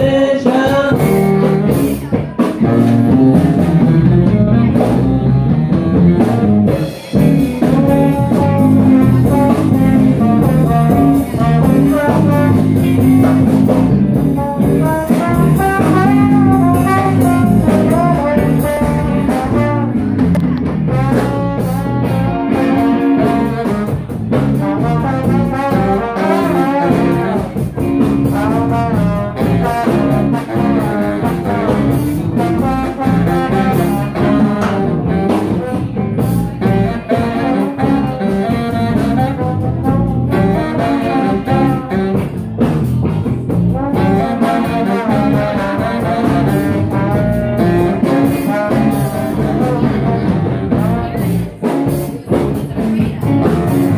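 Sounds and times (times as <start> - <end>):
drum kit: 0.0 - 53.9
electric guitar: 0.0 - 53.9
horn melody: 0.0 - 53.9.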